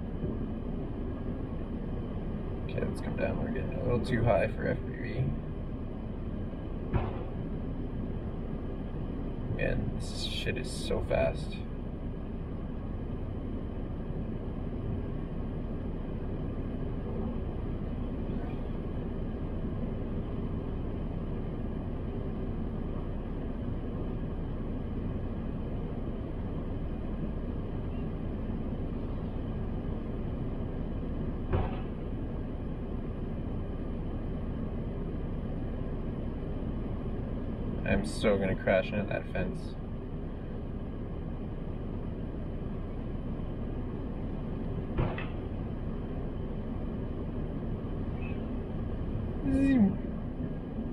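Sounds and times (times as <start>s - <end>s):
low hum in car cabin: 0.0s - 50.9s.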